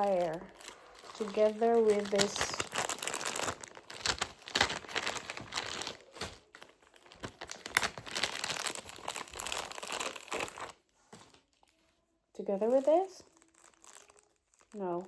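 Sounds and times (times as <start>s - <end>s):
plastic packaging crinkling: 0.0s - 11.8s, 12.5s - 15.0s.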